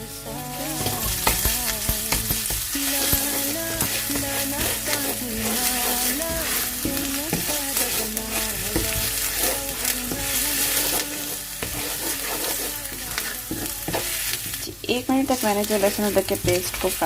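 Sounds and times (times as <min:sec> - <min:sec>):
paste sizzling in hot oil: 0:00.2 - 0:17.0
stirring clicks: 0:00.5 - 0:17.0.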